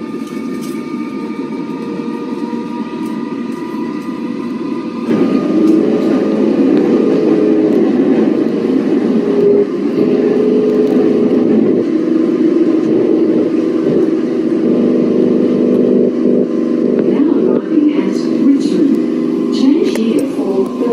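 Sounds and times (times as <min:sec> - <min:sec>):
electric train rumbling: 0:00.0 - 0:20.9.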